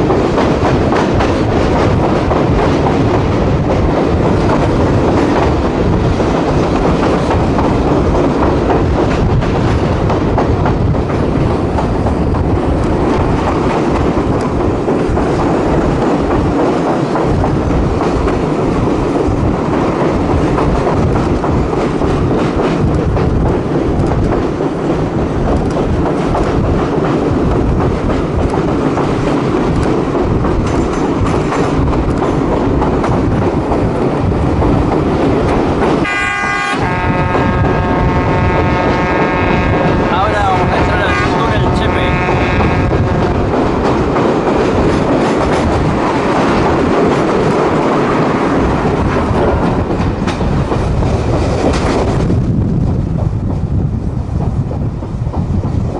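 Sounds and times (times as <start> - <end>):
wheels clacking over rail joints: 0.0 - 52.4
railcar running gear rumble: 0.0 - 55.9.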